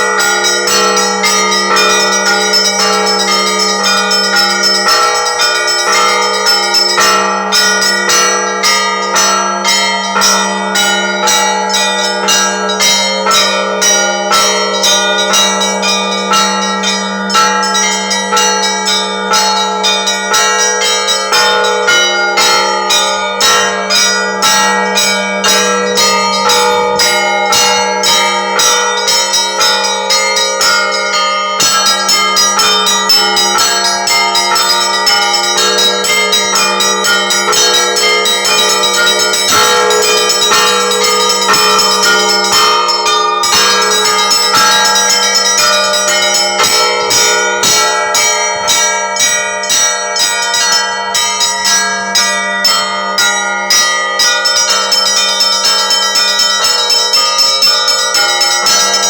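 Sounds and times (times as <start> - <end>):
church bells ringing in patterns: 0.0 - 59.0
large bell humming: 0.0 - 59.0.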